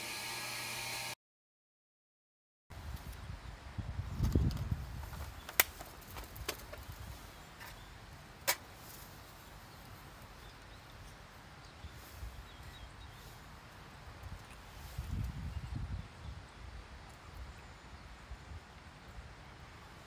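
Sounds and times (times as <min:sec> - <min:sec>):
faint outdoor background: 0:02.7 - 0:20.0.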